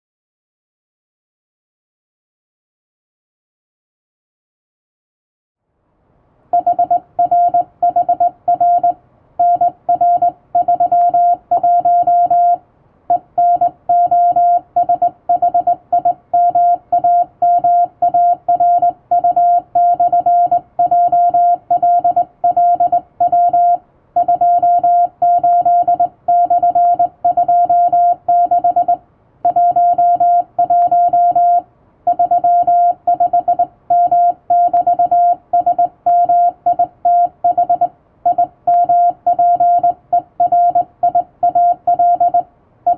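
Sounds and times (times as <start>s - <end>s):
morse code beeps: 6.6s - 42.9s.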